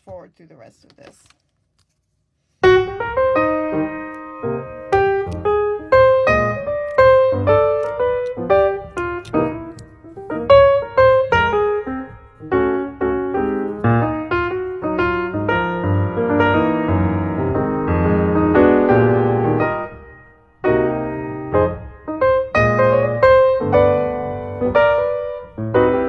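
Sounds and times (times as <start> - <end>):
piano music: 2.6 - 26.0.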